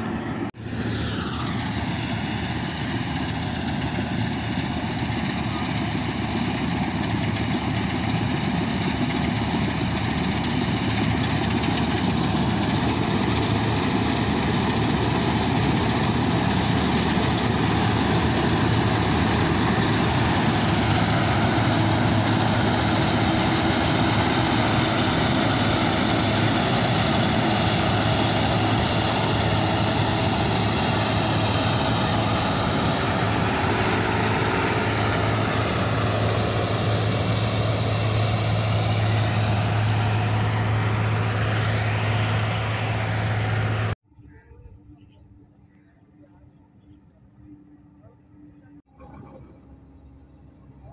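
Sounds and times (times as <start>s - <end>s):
whining threshing machinery: 0.0s - 44.0s
combine harvester engine drone: 0.0s - 50.9s.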